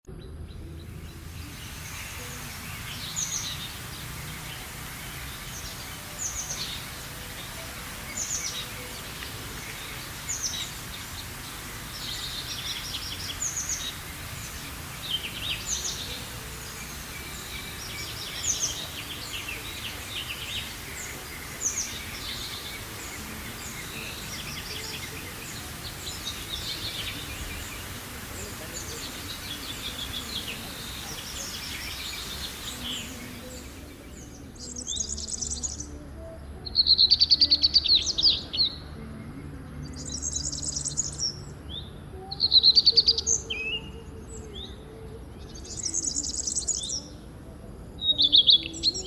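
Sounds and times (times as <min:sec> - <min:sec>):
songbirds singing: 0:00.0 - 0:49.0
background hiss: 0:00.1 - 0:49.0.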